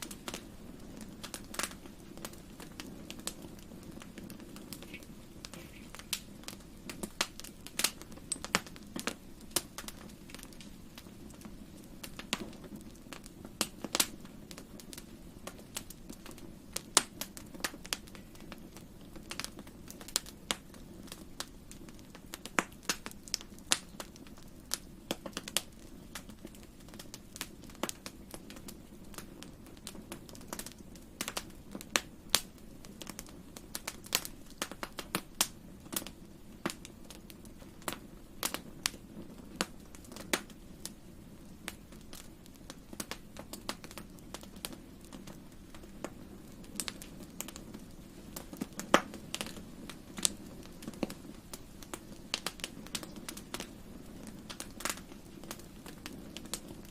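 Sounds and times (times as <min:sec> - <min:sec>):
fire crackling and popping: 0:00.0 - 0:56.9
low rush of burning fire: 0:00.0 - 0:56.9.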